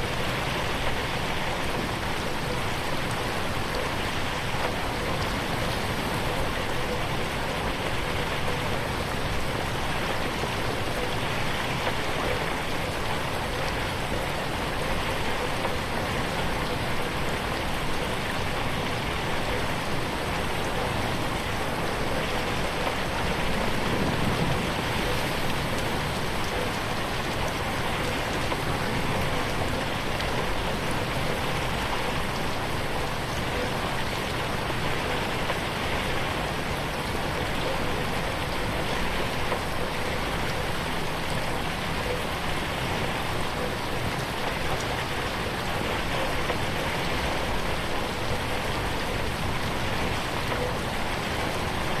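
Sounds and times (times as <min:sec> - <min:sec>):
rain on a window: 0:00.0 - 0:52.0.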